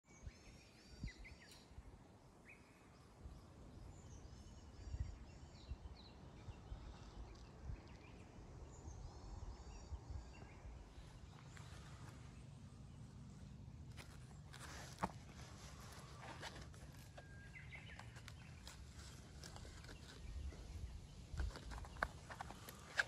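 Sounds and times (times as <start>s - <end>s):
songbird singing faintly: 0.0s - 23.0s.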